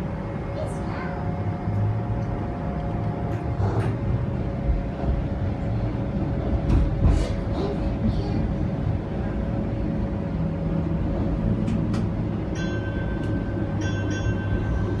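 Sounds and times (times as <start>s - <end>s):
streetcar wheels rumbling on rails: 0.0s - 15.0s.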